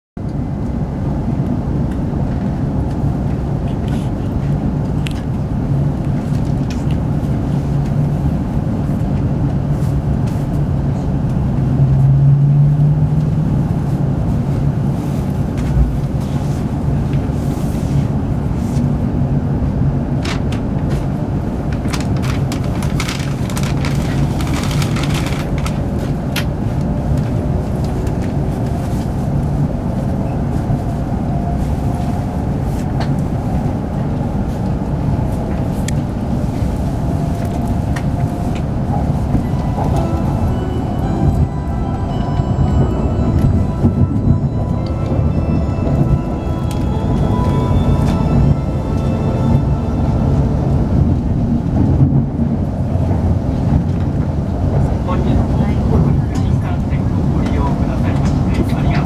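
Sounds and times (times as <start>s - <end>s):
train cabin rumble and hum: 0.1s - 59.0s.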